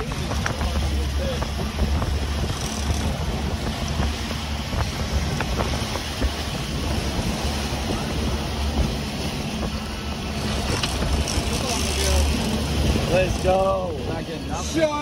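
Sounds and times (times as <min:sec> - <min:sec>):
boat engine running: 0:00.0 - 0:15.0
water wake rushing: 0:00.0 - 0:15.0
wind buffeting microphone: 0:00.0 - 0:15.0.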